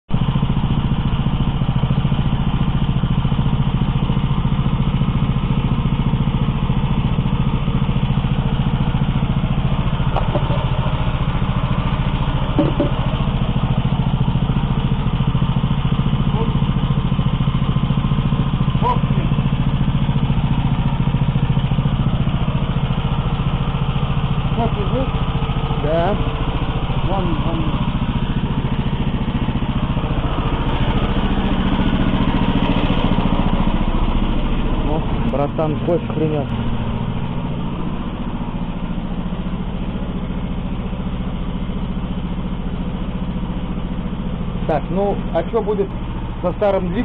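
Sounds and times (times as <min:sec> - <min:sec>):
small petrol engine running: 0:00.1 - 0:47.0.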